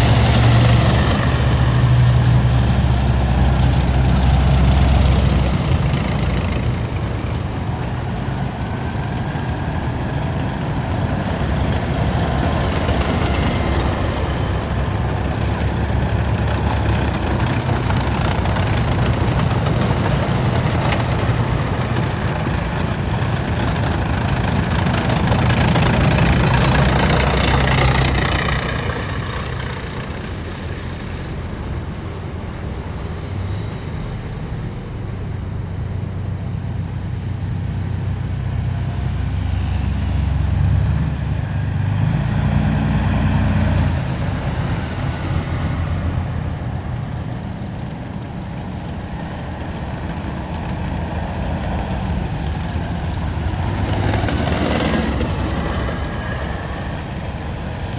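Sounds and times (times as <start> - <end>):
heavy diesel engines droning: 0.0 - 57.9.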